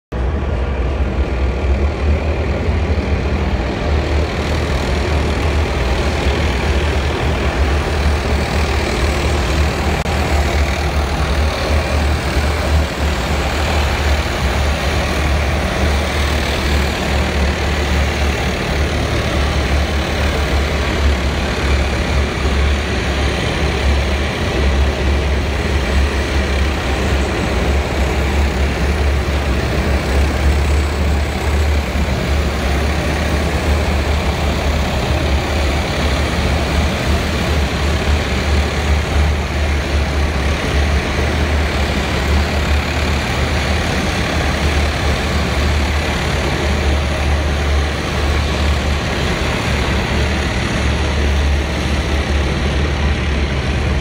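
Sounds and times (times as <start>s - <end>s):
tank engine rumble: 0.1s - 54.0s
tank running gear noise: 0.2s - 54.0s.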